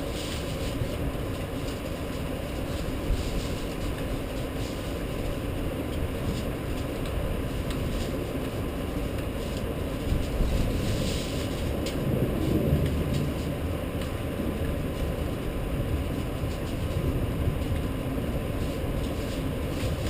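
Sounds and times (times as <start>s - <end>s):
rain rumbling: 0.0s - 20.0s.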